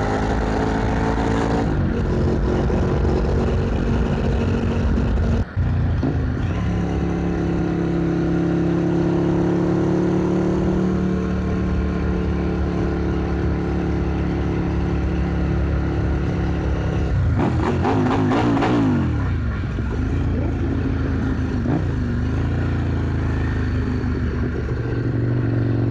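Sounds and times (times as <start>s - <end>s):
motorcycle engine running: 0.0s - 25.9s
road and wind noise: 0.0s - 25.9s.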